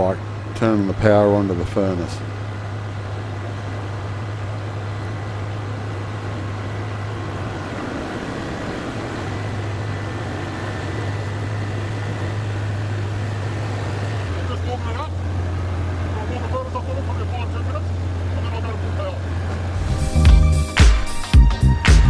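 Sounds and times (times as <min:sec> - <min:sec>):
faint high whine: 0:00.0 - 0:20.0
diesel generator droning: 0:00.0 - 0:22.0.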